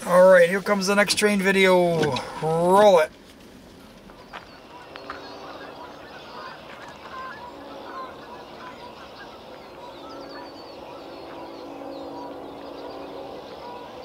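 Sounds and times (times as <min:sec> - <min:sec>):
birds chirping and calling: 0:00.0 - 0:14.0
low long steady calls: 0:00.0 - 0:14.0.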